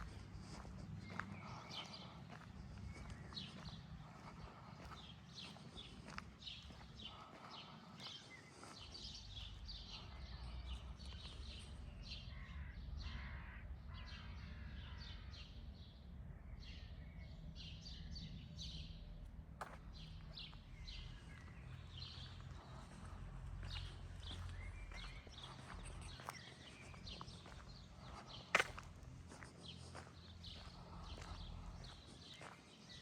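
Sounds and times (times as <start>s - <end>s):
songbirds chirping and singing: 0.0s - 33.0s.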